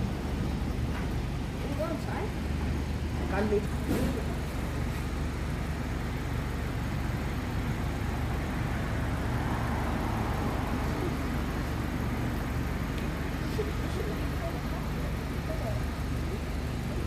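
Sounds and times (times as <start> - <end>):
distant road traffic: 0.0 - 17.0
low city rumble: 0.0 - 17.0.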